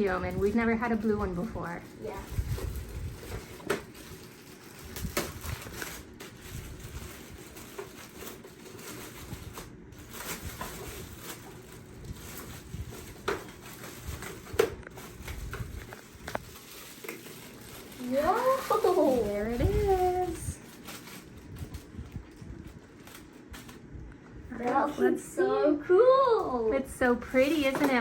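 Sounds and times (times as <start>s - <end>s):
packaging rustling and scraping: 0.0s - 23.9s, 27.0s - 28.0s.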